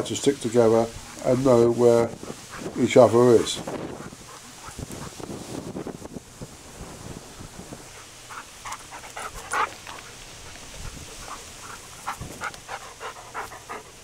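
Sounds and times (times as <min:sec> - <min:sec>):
dogs panting: 0:00.0 - 0:06.0, 0:07.8 - 0:14.0.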